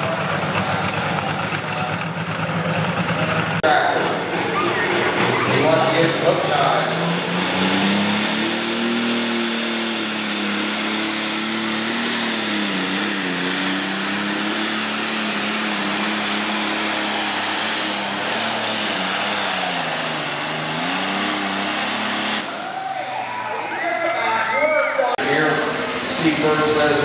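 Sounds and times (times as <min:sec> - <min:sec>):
steady high whine: 0:00.0 - 0:23.7
tractor engine at full power: 0:00.0 - 0:24.0, 0:25.2 - 0:27.0.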